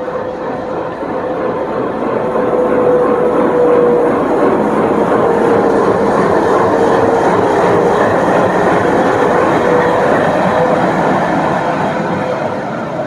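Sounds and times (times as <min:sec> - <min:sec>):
train wheels rumbling and rattling: 0:00.0 - 0:13.0.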